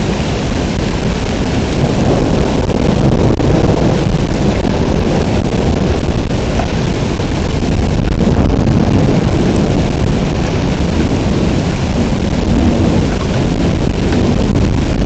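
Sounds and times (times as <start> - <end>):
deep rumble of thunder: 0.0 - 15.0
heavy rain pouring: 0.0 - 15.0.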